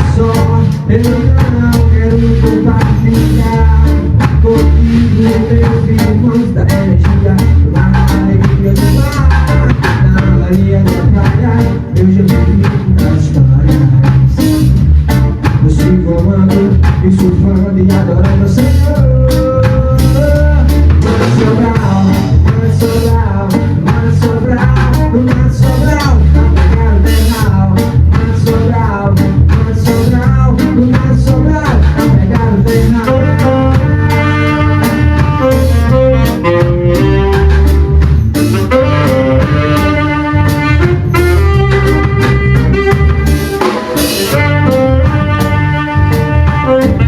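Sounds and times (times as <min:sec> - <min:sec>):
band playing a song: 0:00.0 - 0:47.0
drum kit beat: 0:00.0 - 0:47.0.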